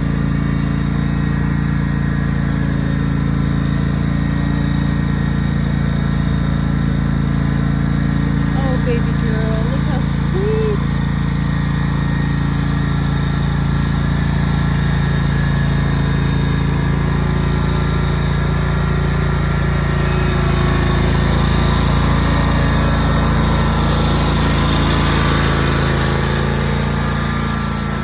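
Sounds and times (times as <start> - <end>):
riding lawnmower engine running: 0.0 - 28.0.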